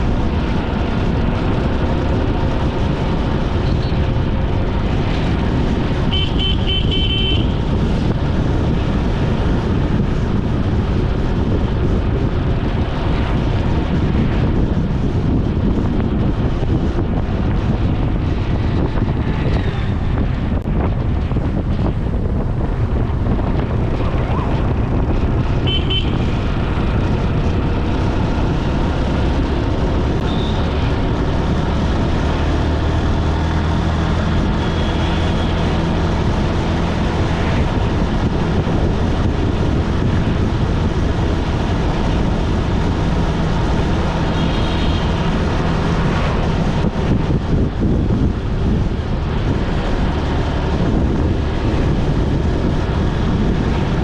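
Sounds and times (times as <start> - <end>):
passing traffic: 0.0 - 54.0
vehicle engine hum: 0.0 - 54.0
wind rushing on microphone: 0.0 - 54.0.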